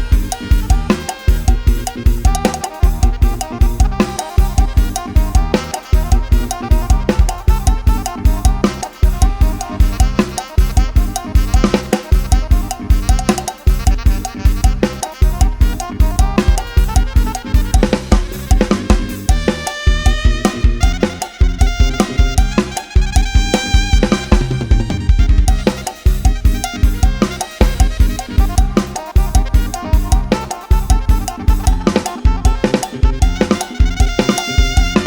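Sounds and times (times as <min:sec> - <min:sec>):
drum kit fast beat: 0:00.0 - 0:35.0
melody line: 0:00.0 - 0:35.0.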